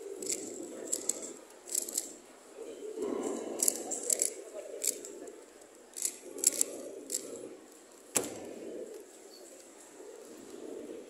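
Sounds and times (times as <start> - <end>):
murmur of voices: 0.0 - 11.0.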